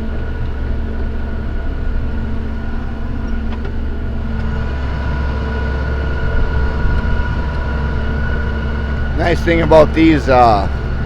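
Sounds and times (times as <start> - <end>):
high engine whine: 0.0 - 11.0
tractor engine droning: 0.0 - 11.0.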